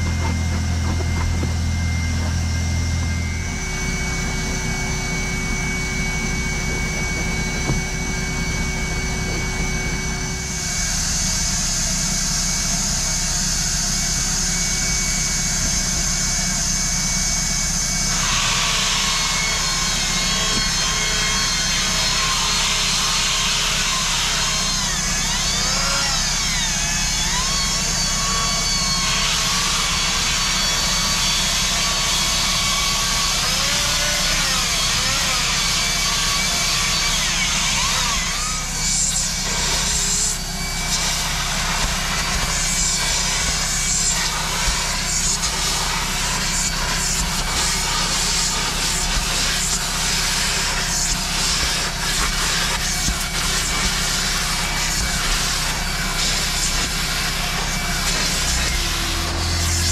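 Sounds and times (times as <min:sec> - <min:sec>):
power tool motor whine: 0:00.0 - 0:59.9.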